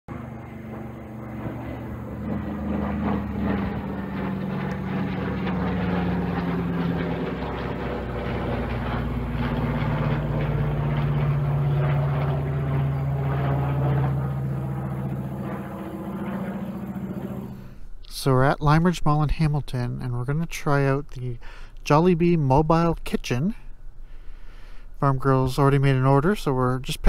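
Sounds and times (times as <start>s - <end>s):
propeller plane droning overhead: 0.1s - 27.0s.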